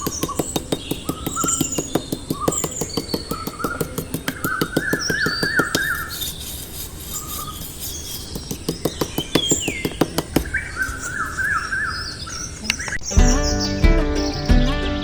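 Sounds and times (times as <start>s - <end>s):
birds chirping and trilling: 0.0s - 6.4s, 7.1s - 15.0s.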